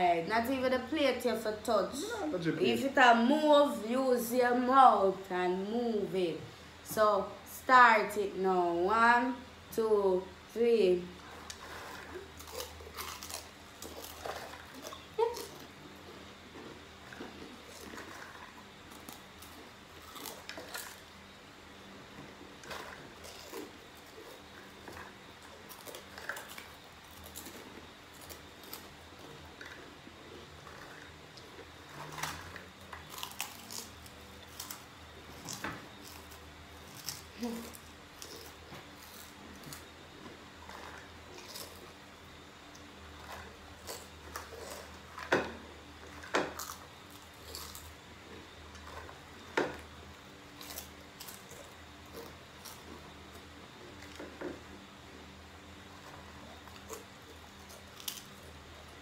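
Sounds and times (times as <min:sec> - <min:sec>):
people chewing and crunching food: 0:11.0 - 0:59.0.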